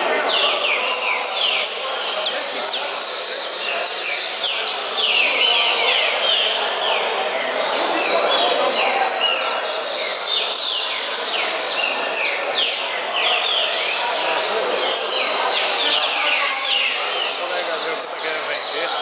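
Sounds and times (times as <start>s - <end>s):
background murmur: 0.0s - 19.0s
finch singing: 0.0s - 19.0s.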